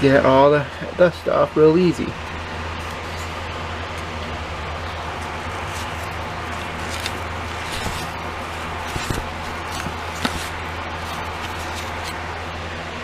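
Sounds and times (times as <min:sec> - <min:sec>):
machine whirring hum: 0:00.0 - 0:13.0.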